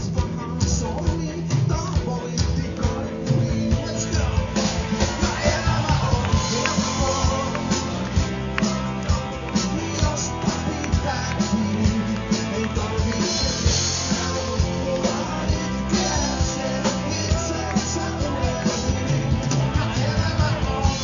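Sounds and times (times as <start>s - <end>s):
man singing: 0.0s - 21.0s
rock band playing: 0.0s - 21.0s.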